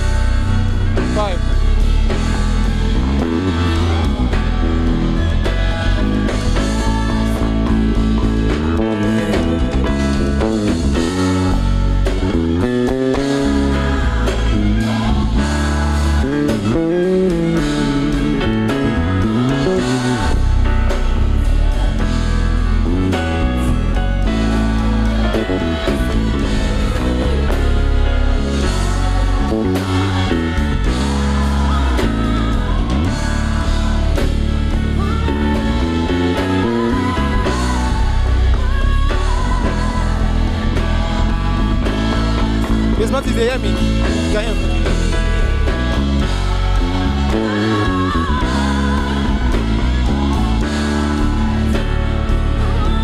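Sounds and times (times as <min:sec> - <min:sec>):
drums: 0:00.0 - 0:53.0
heavy bass line: 0:00.0 - 0:53.0
live band playing: 0:00.0 - 0:53.0
sliding lead melody: 0:00.0 - 0:53.0
person singing: 0:01.0 - 0:45.0, 0:46.2 - 0:53.0.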